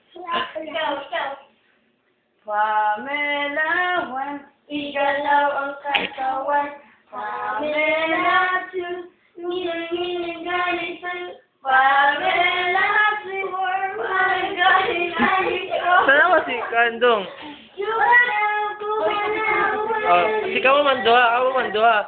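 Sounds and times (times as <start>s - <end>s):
child singing unaccompanied: 2.4s - 16.6s, 17.6s - 22.0s.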